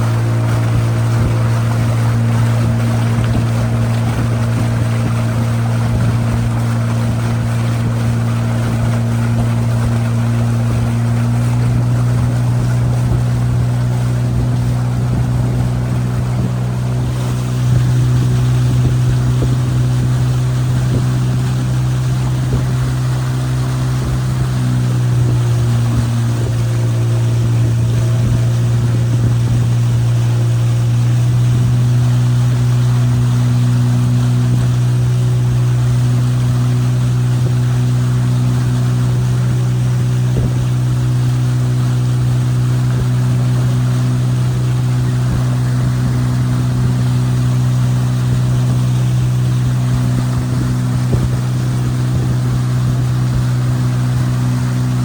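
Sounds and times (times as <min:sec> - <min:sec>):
outboard motor running: 0:00.0 - 0:55.0
water rushing: 0:00.0 - 0:55.0.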